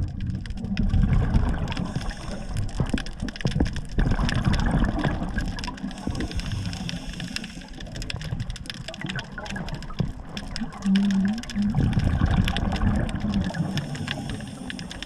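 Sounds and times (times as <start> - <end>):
water sloshing and lapping: 0.0 - 15.0
water splashes: 0.0 - 15.0.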